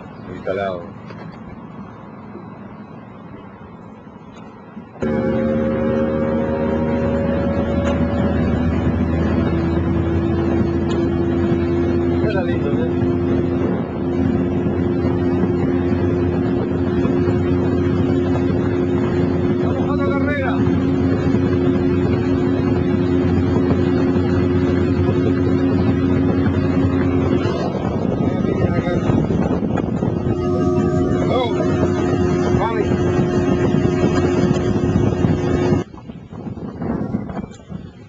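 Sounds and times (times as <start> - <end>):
motorboat engine running: 0.0 - 38.0.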